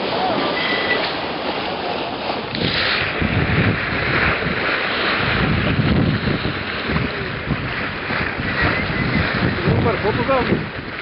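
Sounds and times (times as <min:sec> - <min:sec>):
rushing splashing bow wave: 0:00.0 - 0:11.0
wind buffeting microphone: 0:01.2 - 0:11.0.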